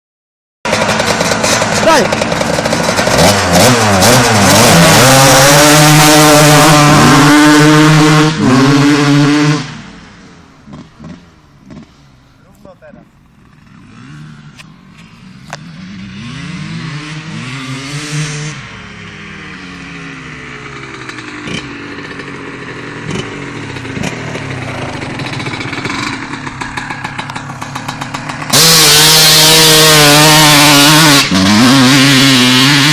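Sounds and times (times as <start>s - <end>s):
dirt bike engines accelerating: 0.7s - 32.9s.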